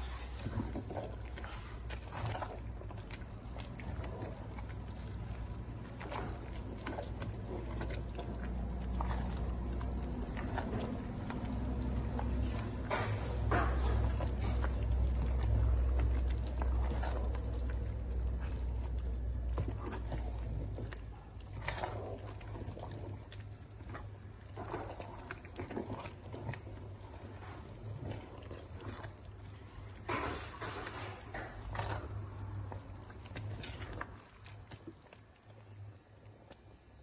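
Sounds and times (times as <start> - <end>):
low rumble: 0.0 - 30.1
soup bubbling: 0.0 - 37.0
wooden spoon stirring pot: 0.0 - 37.0.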